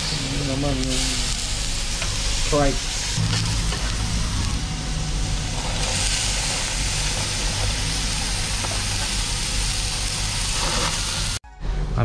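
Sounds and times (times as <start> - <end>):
meat sizzling on grill: 0.0 - 11.4
low hum: 0.1 - 11.4.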